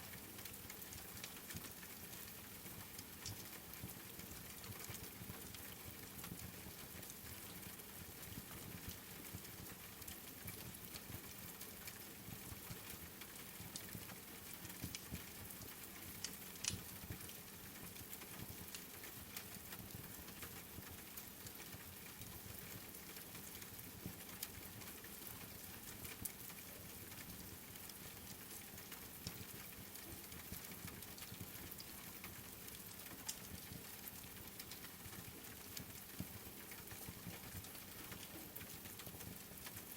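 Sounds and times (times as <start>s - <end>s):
crackling wood fire: 0.0s - 39.9s
steady rain: 0.0s - 39.9s.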